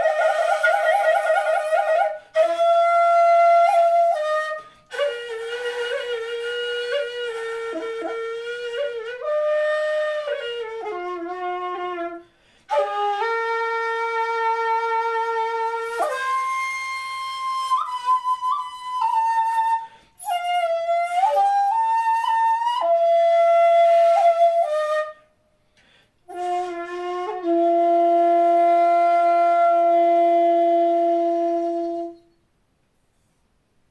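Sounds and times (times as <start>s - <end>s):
bamboo flute long notes: 0.0s - 25.4s, 26.3s - 32.3s.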